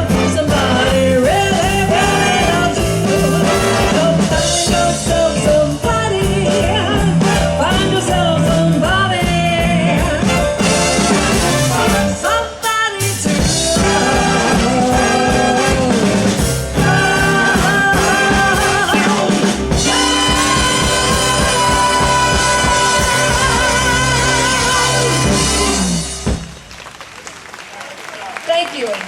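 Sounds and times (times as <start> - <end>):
big band swing music: 0.0 - 27.0.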